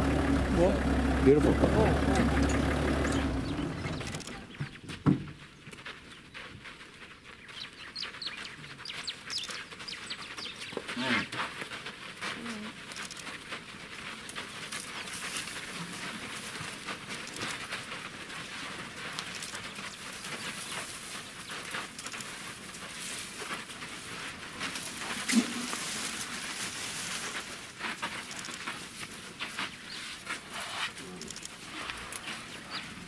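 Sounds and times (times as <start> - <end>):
elephant footfalls on dry brush: 3.2 - 33.0.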